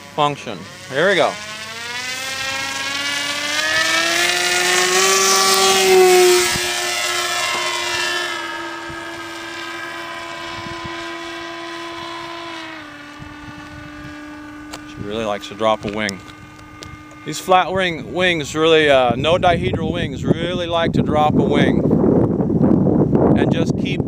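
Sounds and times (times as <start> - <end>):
model airplane motor droning: 0.0 - 23.3.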